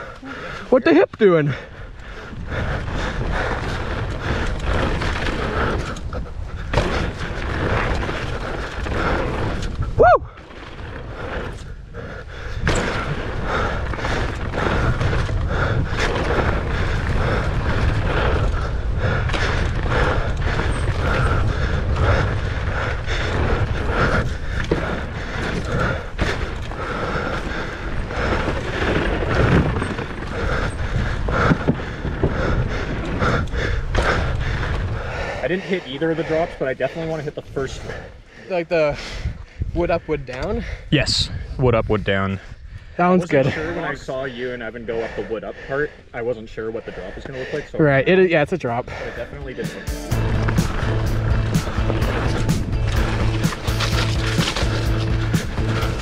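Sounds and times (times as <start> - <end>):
bike tyre and chassis rattle: 1.5 - 40.8, 50.1 - 56.0
wind rumbling on microphone: 1.5 - 44.5, 48.8 - 56.0.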